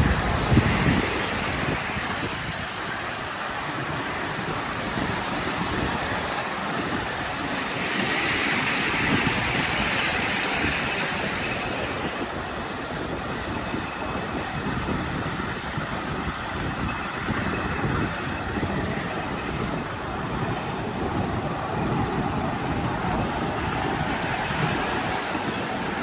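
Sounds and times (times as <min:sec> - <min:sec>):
miniature train rumbling on track: 0:00.0 - 0:26.0
train hissing: 0:00.0 - 0:26.0.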